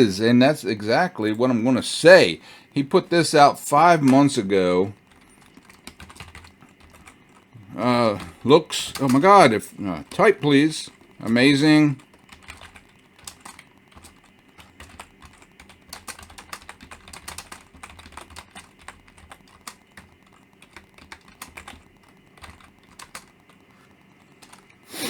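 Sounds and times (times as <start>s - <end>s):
computer keyboard typing: 2.2s - 24.9s.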